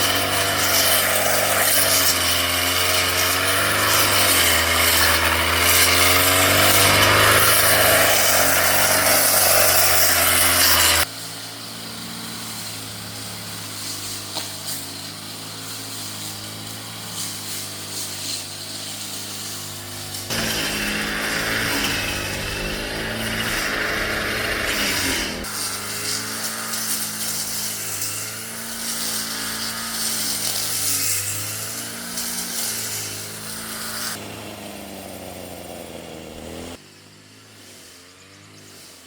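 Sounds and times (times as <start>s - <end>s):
brush cutter engine: 0.0s - 39.0s.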